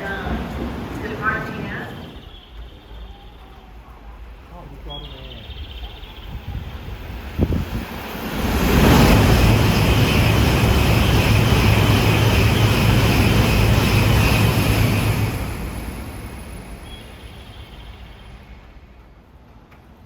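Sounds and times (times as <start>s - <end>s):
train rushing past: 0.0s - 20.0s.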